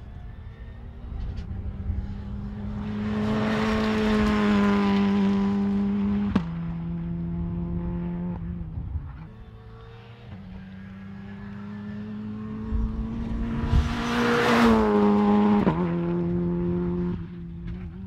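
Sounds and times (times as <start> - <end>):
rally car engine at high revs: 1.4 - 18.0.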